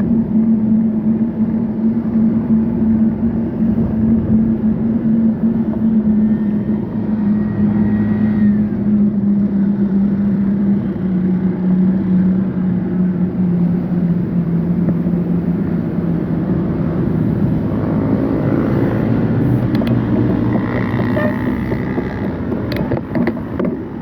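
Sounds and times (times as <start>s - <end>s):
vehicle engine running: 0.0s - 24.0s
wind and road noise: 0.0s - 24.0s.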